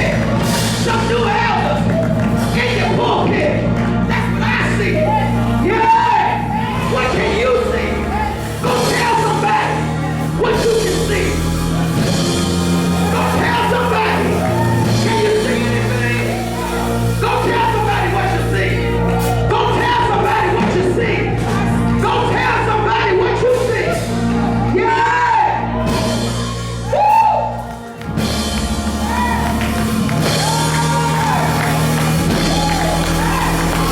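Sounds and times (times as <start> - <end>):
bass and chord tones: 0.0 - 33.9.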